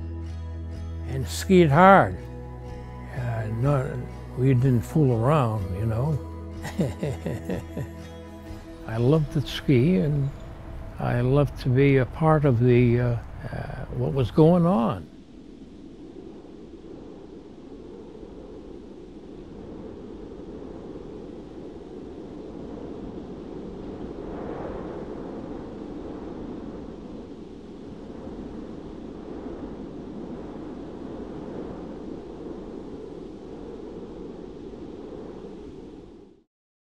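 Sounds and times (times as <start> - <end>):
wind rushing in gusts: 0.0 - 36.5.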